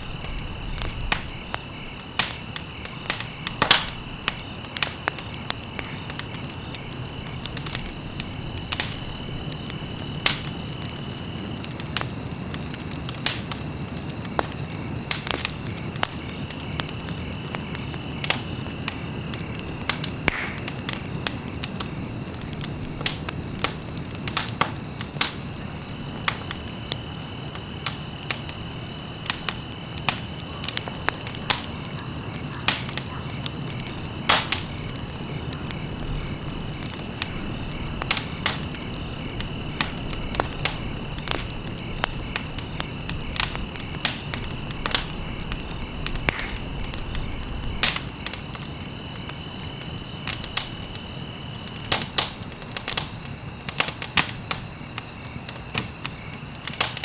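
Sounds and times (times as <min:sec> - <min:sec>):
low rumble of burning: 0:00.0 - 0:57.0
wood fire popping and snapping: 0:00.0 - 0:57.0.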